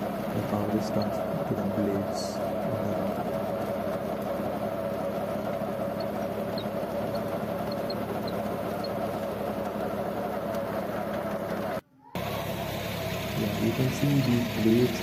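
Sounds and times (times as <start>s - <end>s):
tractor engine and seed drill running: 0.0s - 15.0s.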